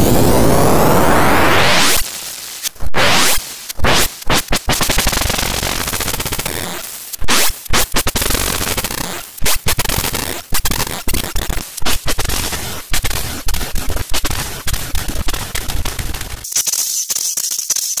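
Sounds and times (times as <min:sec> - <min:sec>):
harsh distorted crackling noise: 0:00.0 - 0:18.0
high hiss: 0:00.0 - 0:18.0.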